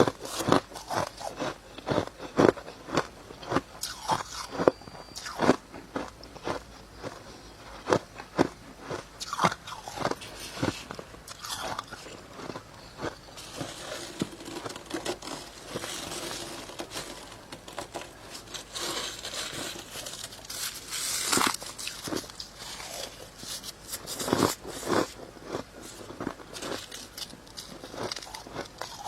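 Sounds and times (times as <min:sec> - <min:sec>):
crunching frost while chewing: 0:00.0 - 0:29.0.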